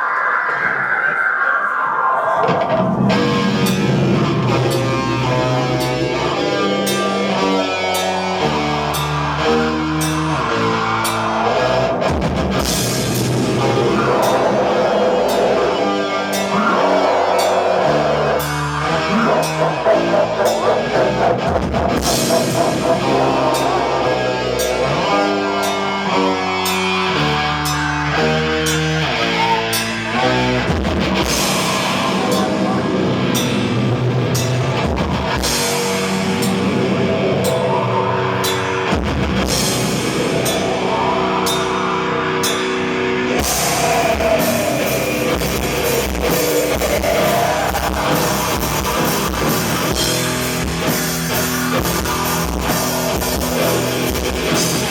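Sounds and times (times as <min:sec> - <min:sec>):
black metal band playing live: 0:02.4 - 0:54.9.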